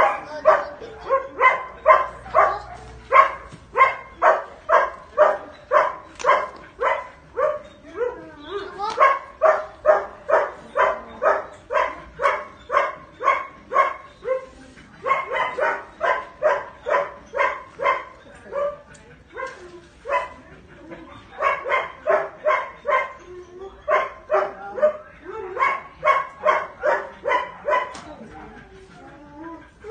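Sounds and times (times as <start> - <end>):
dog barking: 0.0 - 8.2, 8.9 - 18.8, 19.4 - 20.4, 21.3 - 23.2, 23.9 - 28.5.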